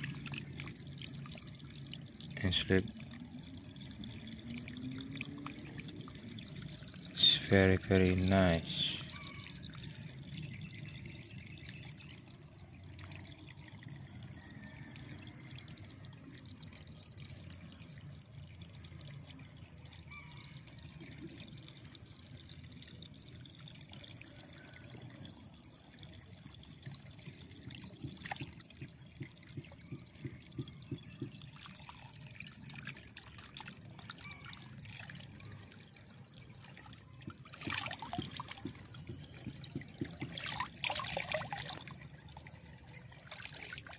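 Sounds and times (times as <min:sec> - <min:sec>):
water splashes: 0:00.0 - 0:14.8, 0:15.4 - 0:43.9
water trickling: 0:00.0 - 0:43.9.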